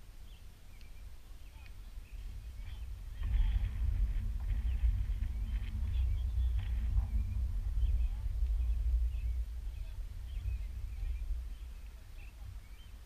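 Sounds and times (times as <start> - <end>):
distant high calls: 0.0 - 13.0
wind buffeting microphone: 0.0 - 13.0.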